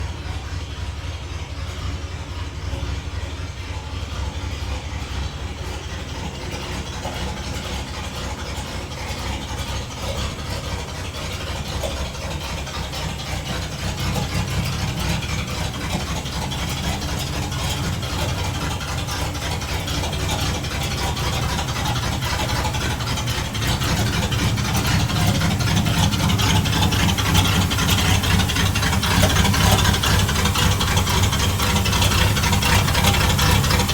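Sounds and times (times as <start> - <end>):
truck engine idling: 0.0 - 33.9
mechanical engine noise: 3.8 - 33.9.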